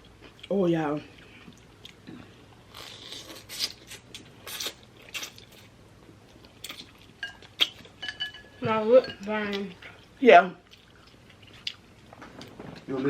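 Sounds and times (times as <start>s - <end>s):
chewing noises: 0.0s - 8.0s, 9.2s - 12.9s.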